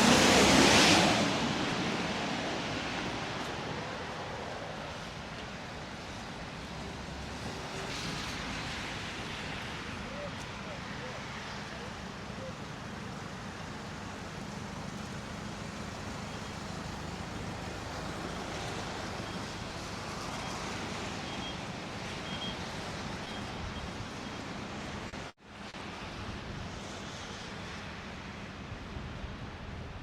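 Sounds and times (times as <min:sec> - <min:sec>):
vehicle rumble: 0:00.0 - 0:24.2.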